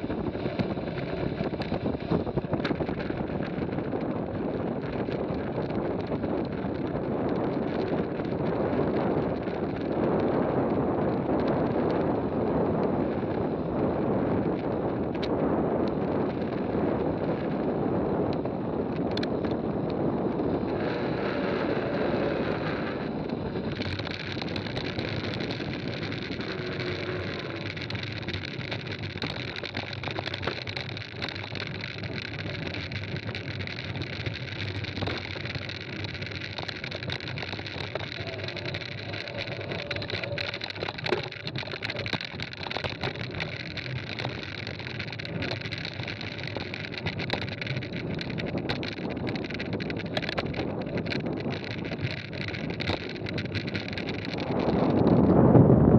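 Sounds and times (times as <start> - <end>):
bike clicks and rattles: 0.0 - 55.9
tyres rolling on gravel: 0.0 - 55.9
wind rushing over microphone: 0.0 - 55.9.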